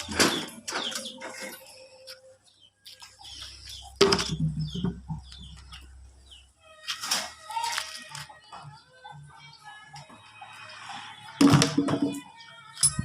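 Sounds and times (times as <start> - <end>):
chicken clucking: 0.0 - 12.2
birds chirping: 0.0 - 13.0.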